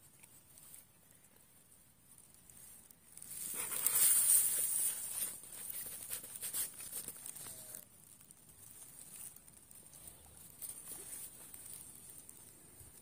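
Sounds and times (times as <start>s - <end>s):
dry grass and reeds crackling: 0.0s - 13.0s.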